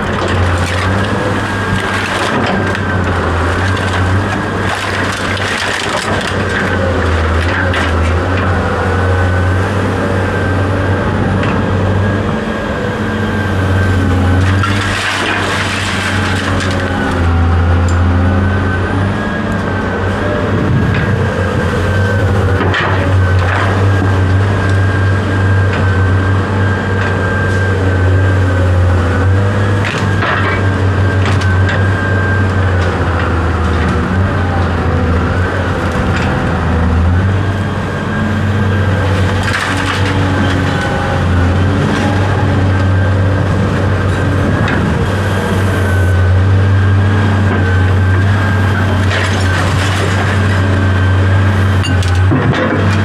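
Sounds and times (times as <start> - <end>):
loud mechanical drone: 0.0 - 53.0.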